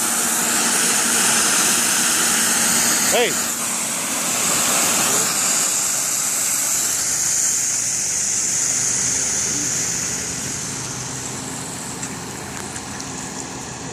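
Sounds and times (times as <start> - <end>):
high-pressure water spray hissing: 0.0 - 13.9
truck engine humming: 0.0 - 13.9.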